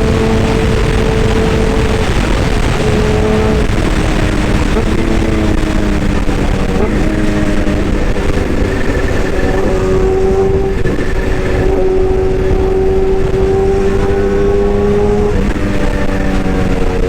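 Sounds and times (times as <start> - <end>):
excavator engine rumbling: 0.0 - 17.0.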